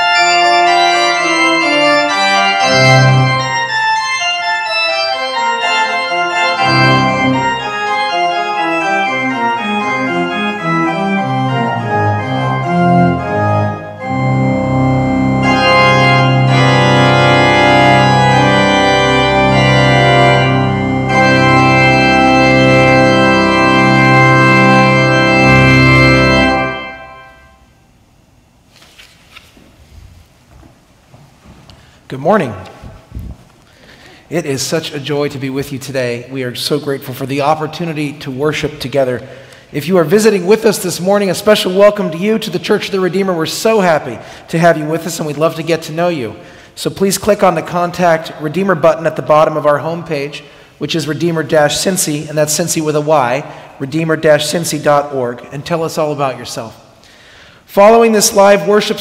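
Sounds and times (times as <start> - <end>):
church organ playing chords: 0.0 - 28.0, 33.8 - 59.0.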